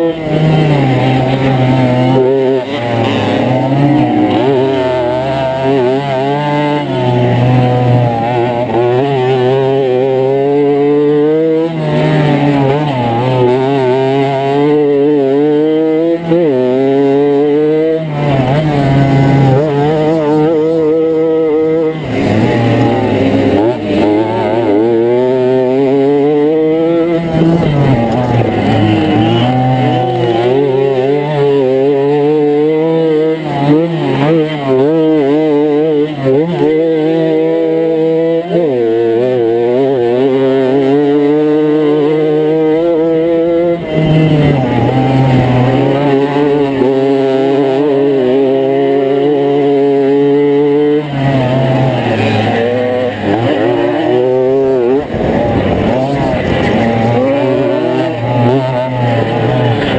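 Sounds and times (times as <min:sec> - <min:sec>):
moped engine revving hard: 0:00.0 - 0:59.9.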